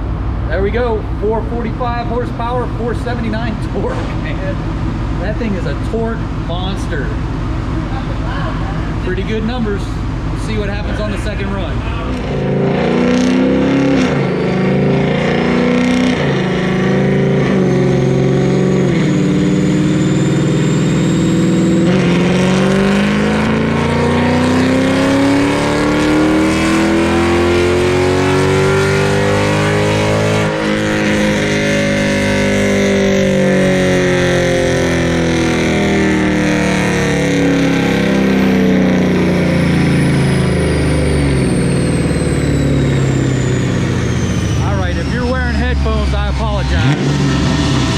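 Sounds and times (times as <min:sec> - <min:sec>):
car engine at full throttle: 0:00.0 - 0:47.9.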